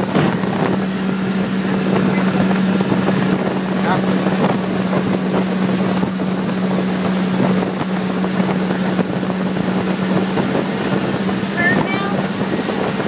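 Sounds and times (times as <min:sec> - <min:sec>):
outboard motor droning: 0:00.0 - 0:13.0
wind buffeting microphone: 0:00.0 - 0:13.0.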